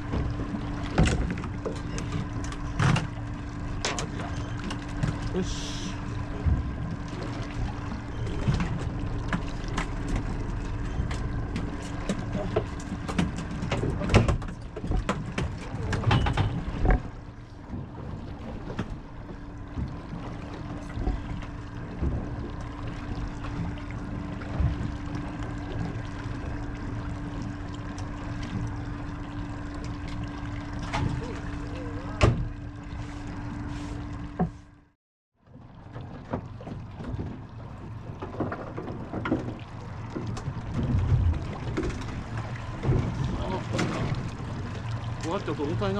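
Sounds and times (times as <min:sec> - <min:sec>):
sea noise: 0:00.0 - 0:34.9, 0:35.5 - 0:45.9
outboard engine idling: 0:00.0 - 0:45.9
wind: 0:00.0 - 0:45.9.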